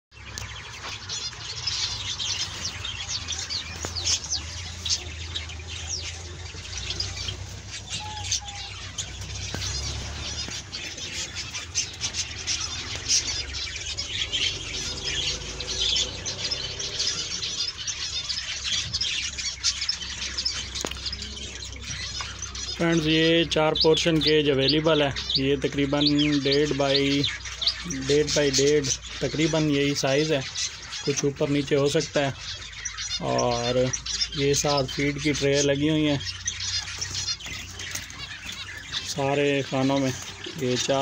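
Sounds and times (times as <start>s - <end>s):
cage birds chirping and twittering: 0.1s - 41.0s.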